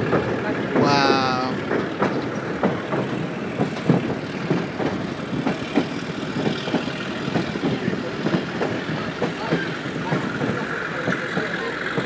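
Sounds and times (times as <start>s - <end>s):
train car rumbling on rails: 0.0s - 12.0s
wheels clacking and rattling: 0.0s - 12.0s.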